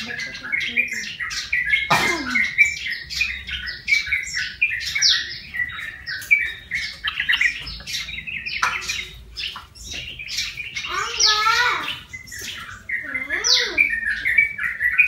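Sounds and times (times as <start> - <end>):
bulbul chattering call: 0.0 - 15.0.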